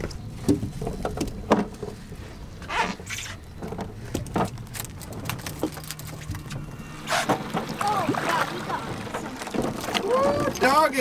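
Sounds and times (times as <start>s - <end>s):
outboard motor humming: 0.0s - 11.0s.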